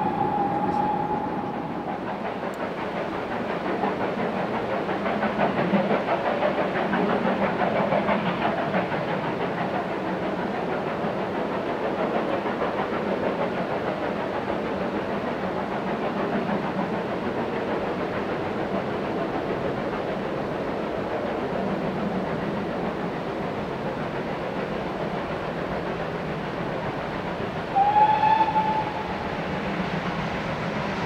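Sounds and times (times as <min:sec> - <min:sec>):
steam hiss: 0:00.0 - 0:31.0
steam locomotive exhaust beats: 0:00.0 - 0:31.0.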